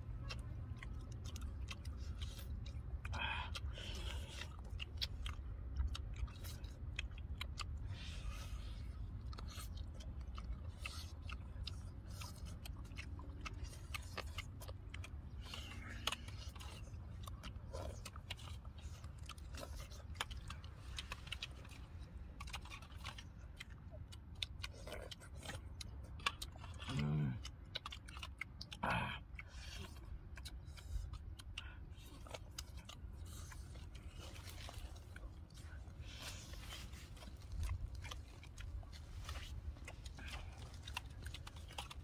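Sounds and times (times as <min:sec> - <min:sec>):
low steady rumble: 0:00.0 - 0:42.0
people chewing and biting meat: 0:00.0 - 0:42.0.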